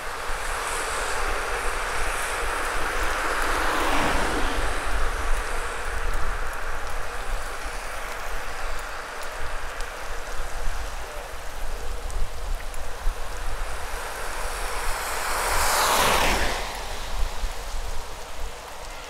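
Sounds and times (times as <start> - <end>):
wind buffeting the microphone: 0.0 - 15.8
bicycle tyres rolling on asphalt: 0.0 - 19.0.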